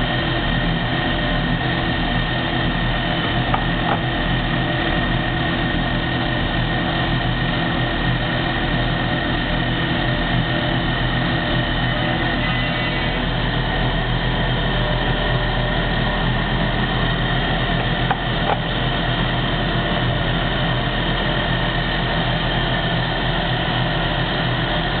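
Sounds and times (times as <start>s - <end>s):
lathe motor humming: 0.0s - 25.0s.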